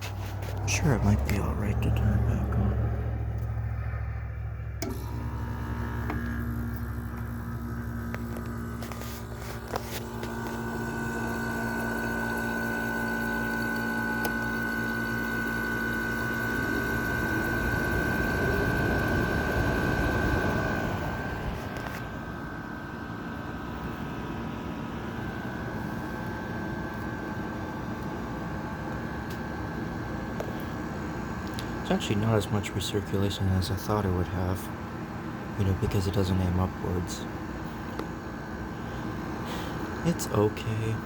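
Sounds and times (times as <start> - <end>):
air conditioner compressor humming: 0.0 - 41.0.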